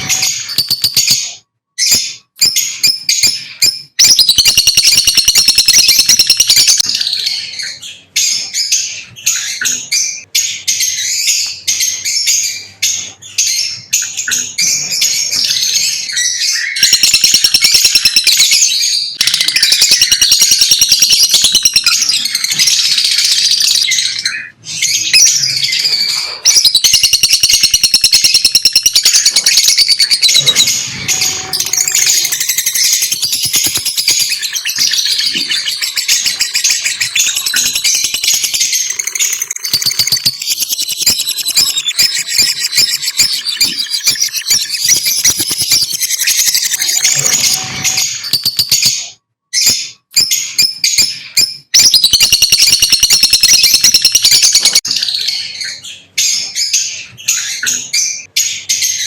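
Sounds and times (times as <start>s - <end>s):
lovebirds chirping: 0.0s - 59.0s.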